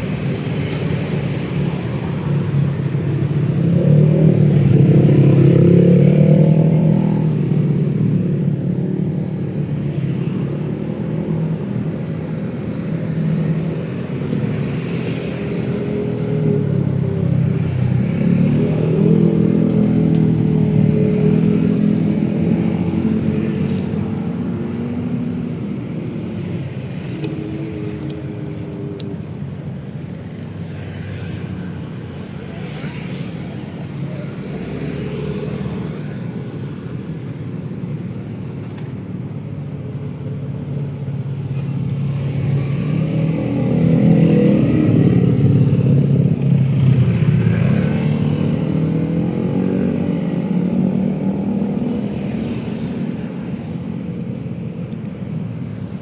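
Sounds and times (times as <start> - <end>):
vehicle engines passing: 0.0 - 56.0.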